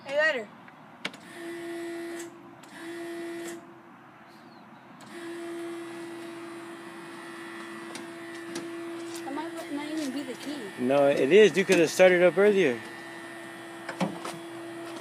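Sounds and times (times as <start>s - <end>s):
forklift electric whine: 1.1s - 3.8s, 5.0s - 15.0s.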